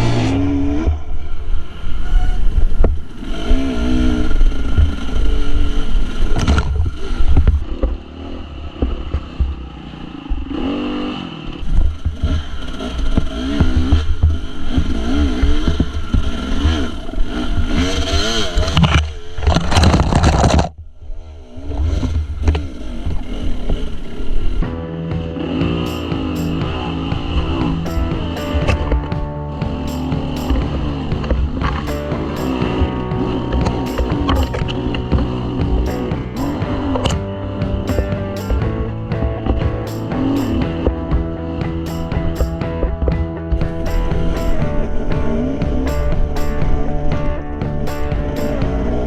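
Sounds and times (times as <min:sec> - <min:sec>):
dirt bike engine revving: 0:00.0 - 0:19.4, 0:21.7 - 0:49.0.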